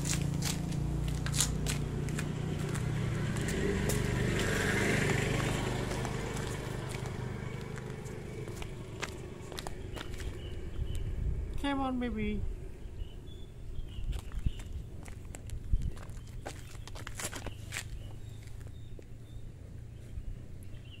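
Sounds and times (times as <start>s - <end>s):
motor engine humming: 0.0s - 16.9s.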